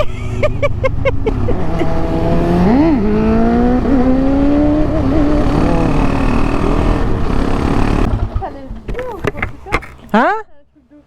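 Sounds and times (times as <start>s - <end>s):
motorcycle engine accelerating: 0.0s - 10.4s.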